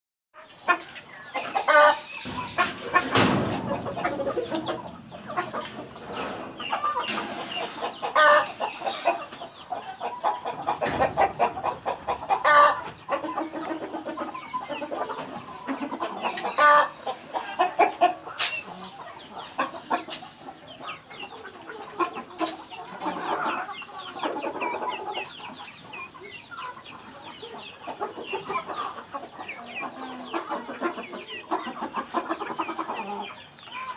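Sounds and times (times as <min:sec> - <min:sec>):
chickens clucking: 0:00.4 - 0:33.9.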